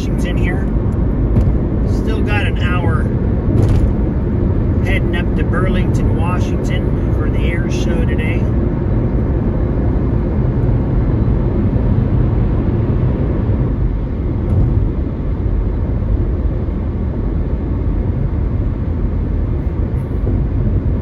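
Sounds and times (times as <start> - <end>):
tyre and wind noise in car: 0.0 - 5.8, 8.5 - 21.0.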